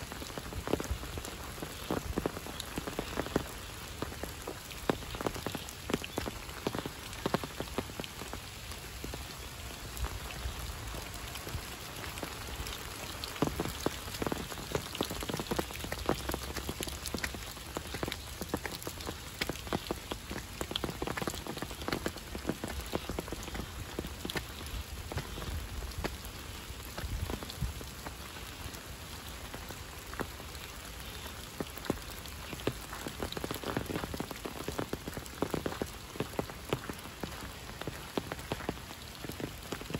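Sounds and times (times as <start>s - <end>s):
close raindrop hits: 0.0s - 39.9s
steady rain patter: 0.0s - 39.9s.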